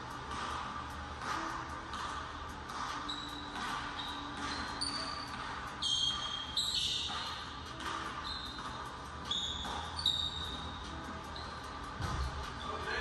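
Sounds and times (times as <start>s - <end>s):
sneakers squeaking: 0.1s - 13.0s.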